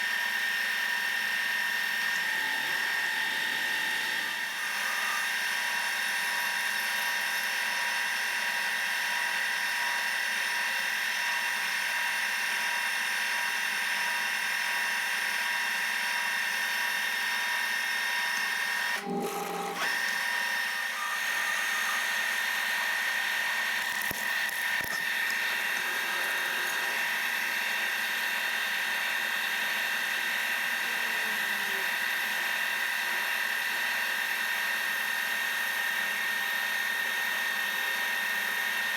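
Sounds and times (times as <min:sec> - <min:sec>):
milling machine spindle whining: 0:00.2 - 0:38.9.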